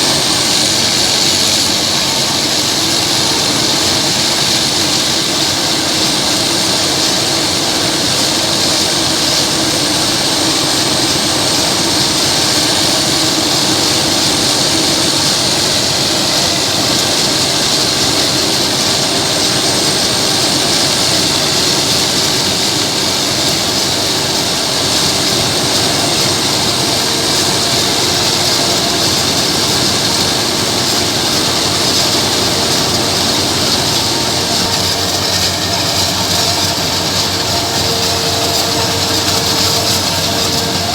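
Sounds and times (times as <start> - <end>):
forage harvester droning: 0.0 - 40.9
high machine whine: 0.0 - 40.9.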